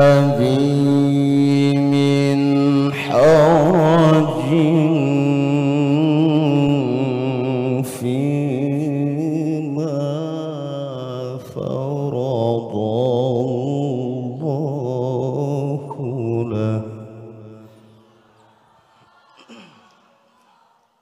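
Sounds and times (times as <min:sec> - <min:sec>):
man reciting melodically: 0:00.0 - 0:17.7.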